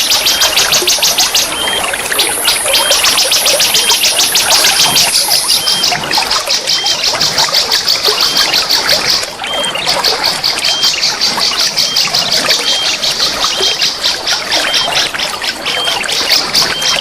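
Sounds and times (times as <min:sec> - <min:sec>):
high-pitched pulsing bird call: 0:00.0 - 0:17.0
water trickling and splashing: 0:00.0 - 0:17.0.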